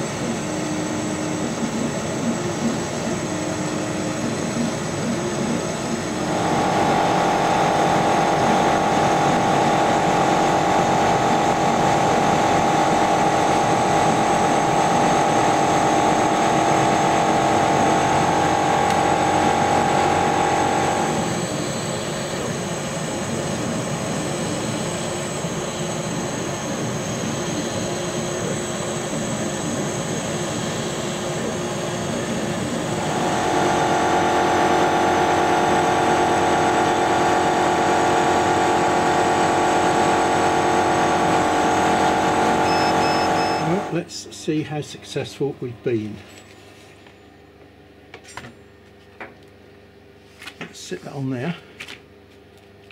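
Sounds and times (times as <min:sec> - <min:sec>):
laser cutter machine drone: 0:00.0 - 0:45.6
steady machine whine: 0:00.0 - 0:49.0.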